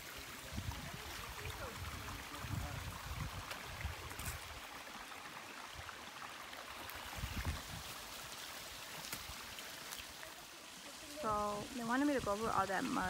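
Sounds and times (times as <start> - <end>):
creek trickling over rocks: 0.0 - 13.0.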